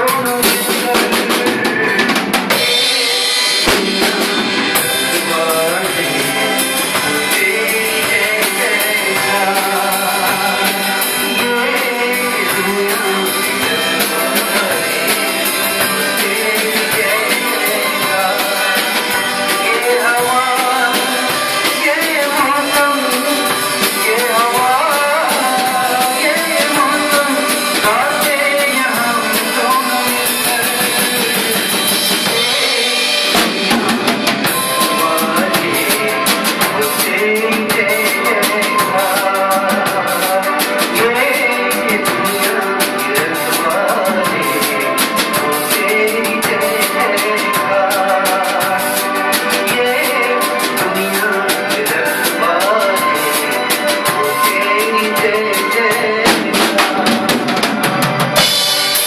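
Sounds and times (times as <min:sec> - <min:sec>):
drum kit beat: 0:00.0 - 0:59.0
live band music: 0:00.0 - 0:59.0.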